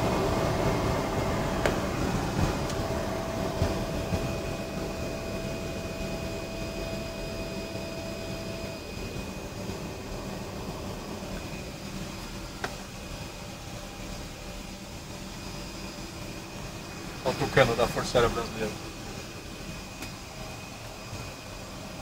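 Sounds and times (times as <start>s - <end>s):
aircraft cockpit rumble: 0.0s - 22.0s
thin steady tones: 0.0s - 22.0s.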